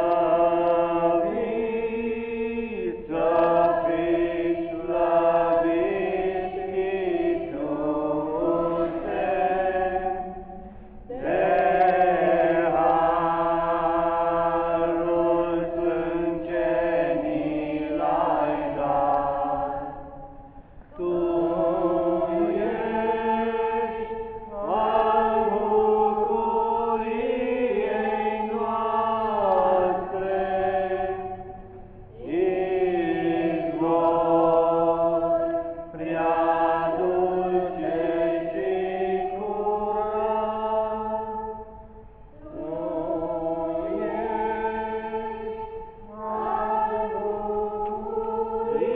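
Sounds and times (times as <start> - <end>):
women singing a hymn unaccompanied: 0.0 - 48.9.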